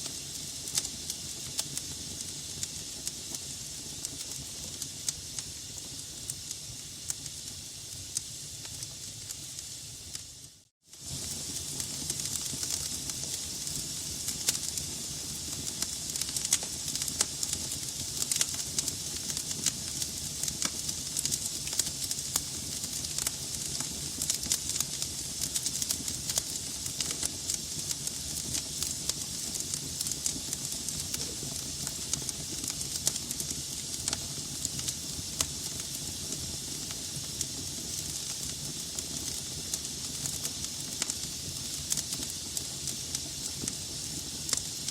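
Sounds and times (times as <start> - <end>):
logs crackling in fireplace: 0.0 - 44.9.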